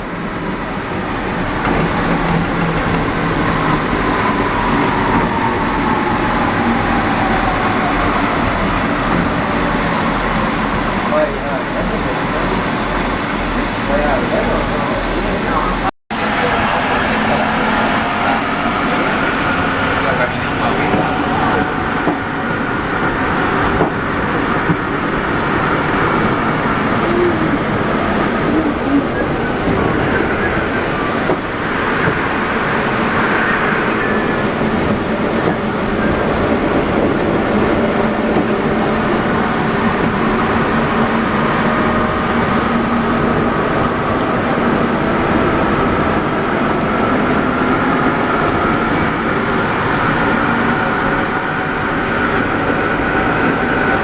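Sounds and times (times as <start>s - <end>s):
metro train rumbling with whine: 0.0s - 54.0s.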